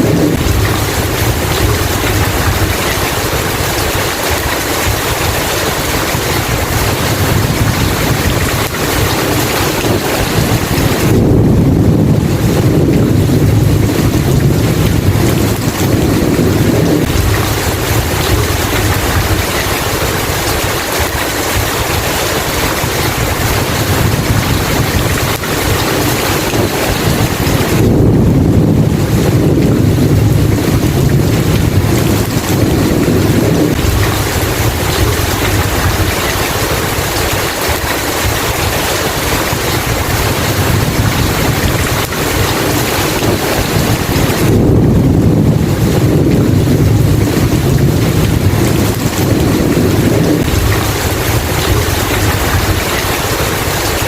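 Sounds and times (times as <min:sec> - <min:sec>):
heavy rain: 0:00.0 - 0:54.0
low rolling thunder: 0:00.0 - 0:54.0.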